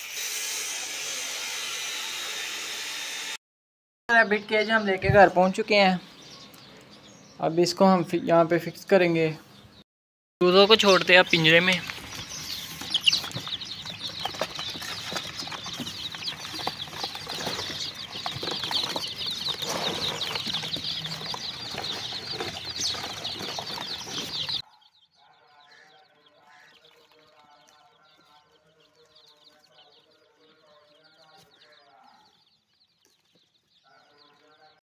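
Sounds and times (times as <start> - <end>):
baby chicks peeping: 4.1 - 9.8, 10.4 - 34.8.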